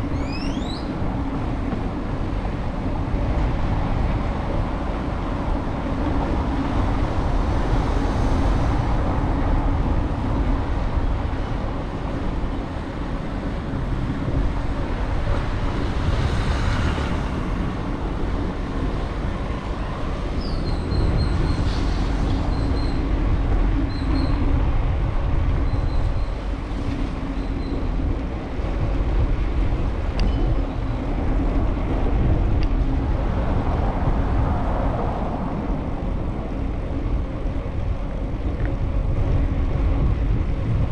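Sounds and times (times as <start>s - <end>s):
street traffic: 0.0s - 40.9s
wind rumble on microphone: 0.0s - 40.9s.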